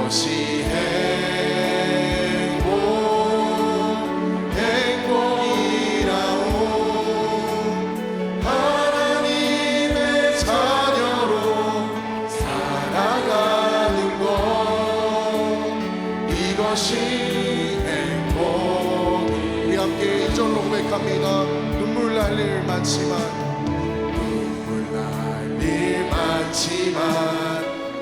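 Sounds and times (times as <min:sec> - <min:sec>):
group singing worship song: 0:00.0 - 0:28.0
instrumental accompaniment: 0:00.0 - 0:28.0.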